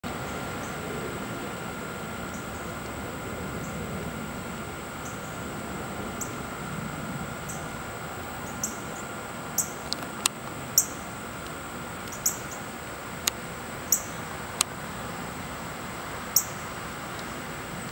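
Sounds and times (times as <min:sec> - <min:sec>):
hummingbird high chip notes: 0:00.1 - 0:16.8.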